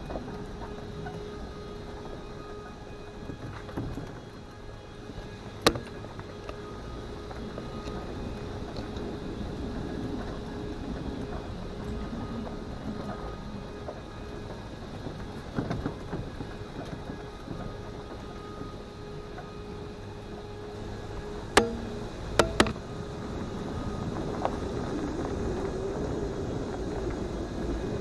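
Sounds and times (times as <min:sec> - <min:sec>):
vehicle engine and tyres rumbling: 0:00.0 - 0:28.0.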